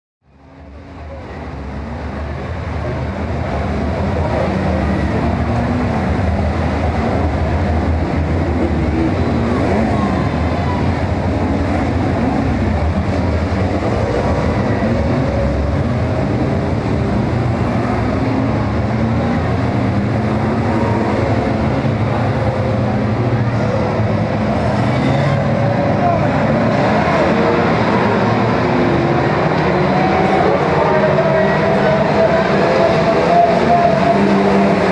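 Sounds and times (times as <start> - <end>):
stock car engines revving: 0.3 - 34.9.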